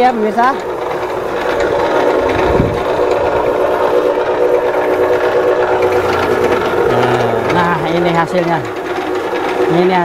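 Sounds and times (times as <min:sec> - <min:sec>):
motor whine: 0:00.0 - 0:10.0
noodle machine running: 0:00.0 - 0:10.0.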